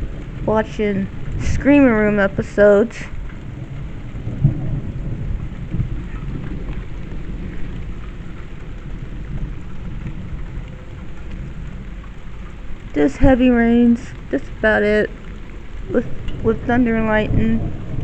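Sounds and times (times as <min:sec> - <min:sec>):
heavy rain pouring: 0:00.0 - 0:18.0
thunder rumbling: 0:00.0 - 0:18.0.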